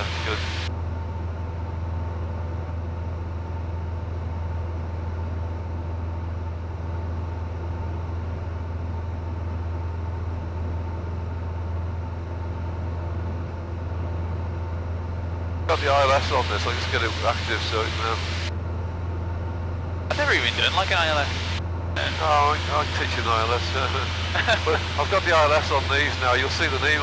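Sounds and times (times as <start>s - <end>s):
airplane engine and propeller drone: 0.0s - 27.0s.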